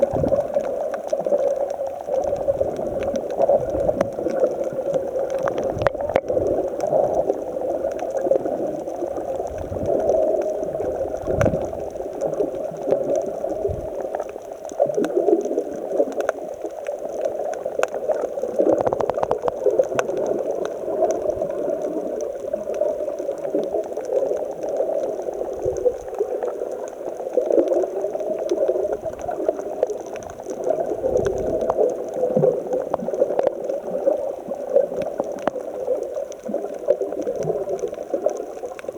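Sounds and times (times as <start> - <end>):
rough sea water churning: 0.0 - 14.4, 15.0 - 38.9.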